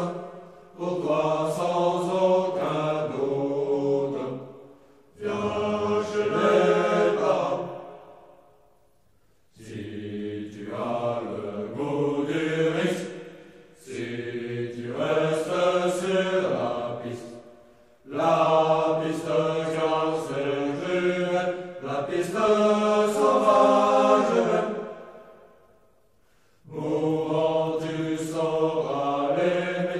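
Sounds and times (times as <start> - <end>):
choir singing slow chords: 0.0 - 29.9.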